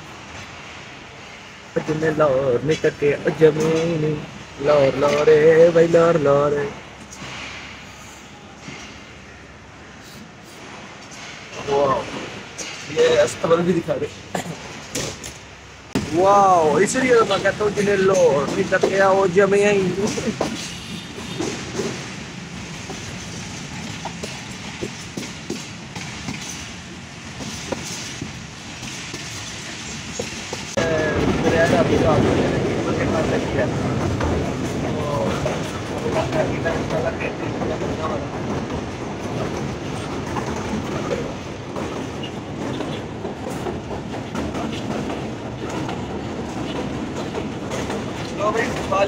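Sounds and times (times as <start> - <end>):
train wheels on rails: 0.0 - 49.0.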